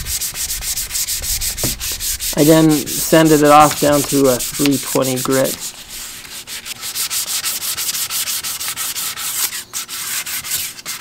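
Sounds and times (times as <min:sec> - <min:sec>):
sandpaper rubbing wood: 0:00.0 - 0:11.0.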